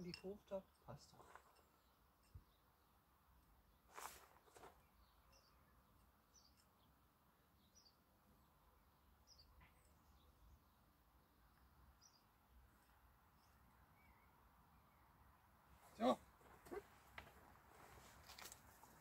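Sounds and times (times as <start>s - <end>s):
bird chirping: 0.0s - 15.5s.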